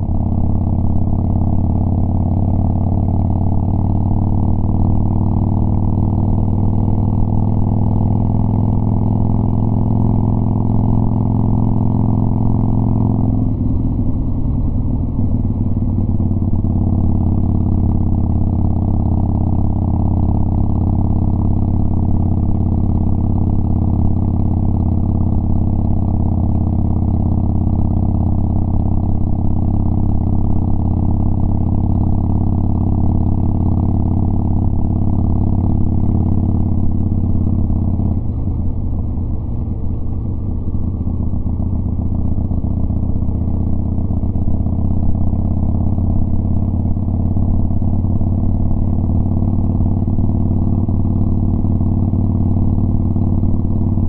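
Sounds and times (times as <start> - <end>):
motorcycle engine riding: 0.0 - 54.0.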